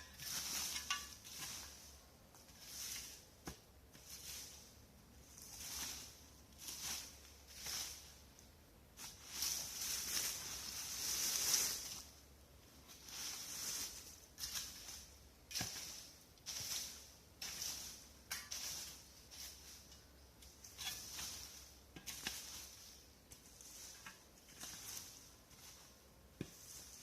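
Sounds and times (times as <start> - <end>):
rustling of fallen leaves: 0.0 - 27.0.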